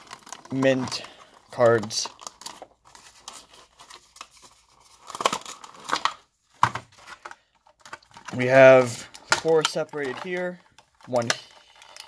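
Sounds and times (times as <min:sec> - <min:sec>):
cardboard and plastic tearing: 0:00.0 - 0:12.0.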